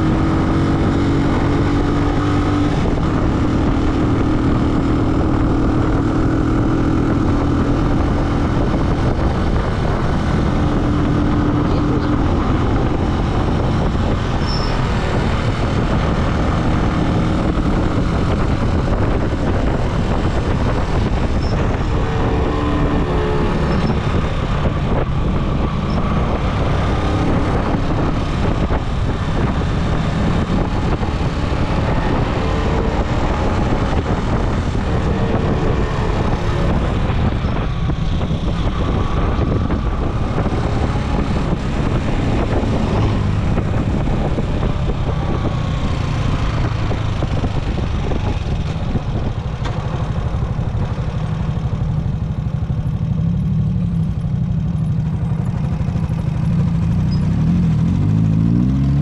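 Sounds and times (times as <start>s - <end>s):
moving vehicle noise: 0.0s - 59.0s.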